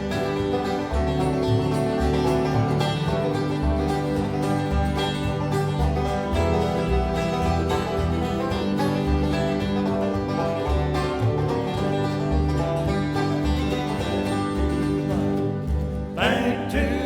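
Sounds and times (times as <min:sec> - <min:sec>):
banjo picking: 0:00.0 - 0:17.0
bass notes: 0:00.0 - 0:17.0
guitar picking: 0:00.0 - 0:17.0.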